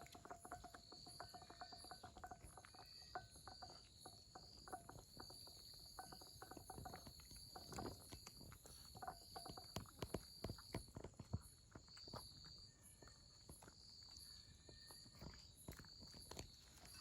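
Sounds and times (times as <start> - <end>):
insects chirping: 0.0 - 17.0
small clicks and ticks: 0.0 - 17.0.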